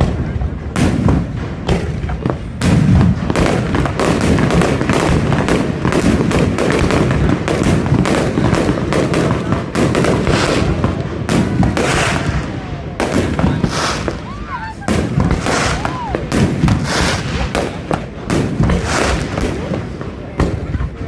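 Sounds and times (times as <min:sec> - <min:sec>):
fireworks barrage bangs: 0:00.0 - 0:21.0.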